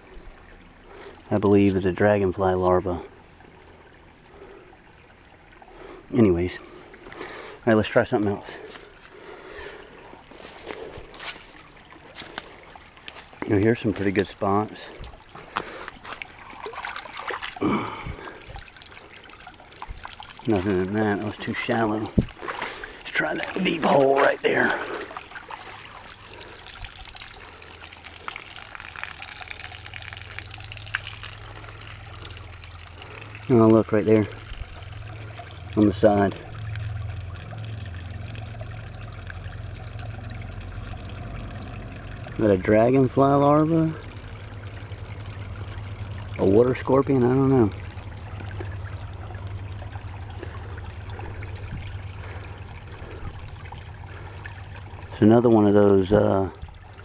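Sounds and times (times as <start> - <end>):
creek trickling: 0.0 - 57.0
stream water splashing: 0.0 - 57.0
water draining through fabric: 2.4 - 57.0.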